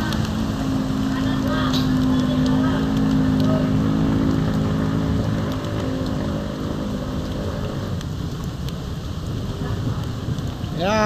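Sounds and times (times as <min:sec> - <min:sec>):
heavy rain on flooded street: 0:00.0 - 0:11.0
vehicle engine humming: 0:00.0 - 0:11.0.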